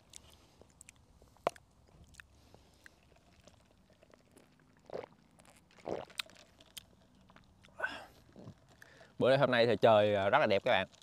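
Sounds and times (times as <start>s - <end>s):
chewing crispy fries: 0.0s - 9.2s, 10.2s - 11.0s.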